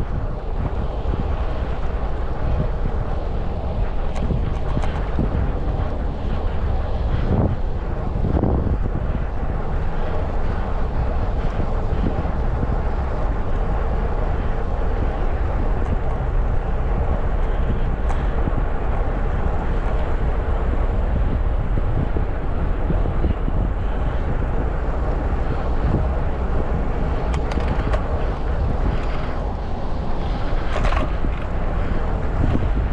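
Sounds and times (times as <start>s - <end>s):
passing traffic: 0.0s - 32.9s
road noise: 0.0s - 32.9s
wind rushing on microphone: 0.0s - 32.9s.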